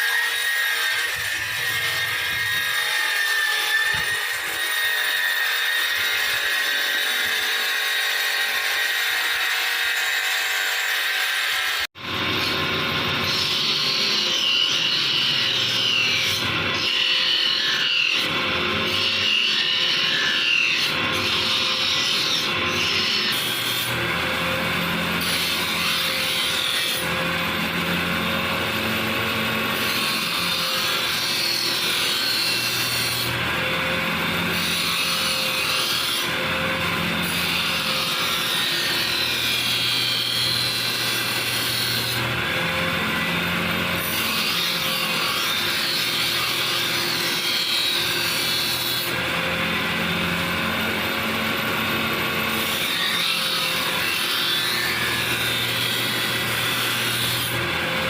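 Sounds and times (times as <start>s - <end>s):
power tool grinding steel: 0.0s - 58.0s.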